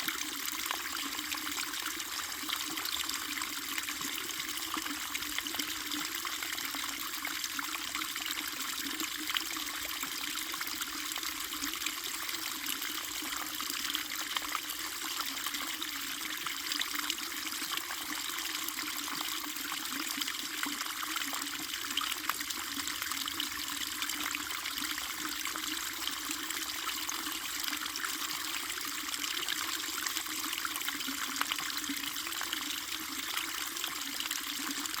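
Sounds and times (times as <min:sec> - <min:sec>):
brook trickling and splashing: 0:00.0 - 0:35.0.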